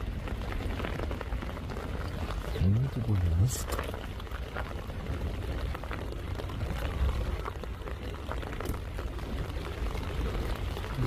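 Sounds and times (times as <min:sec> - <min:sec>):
rainwater pouring from roof: 0:00.0 - 0:11.0.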